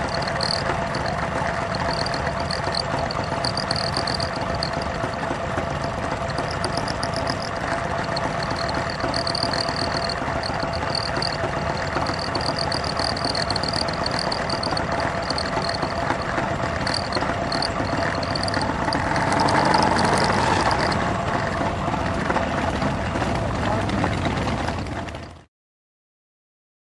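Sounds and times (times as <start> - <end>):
motorcycle engine idling: 0.0 - 25.2.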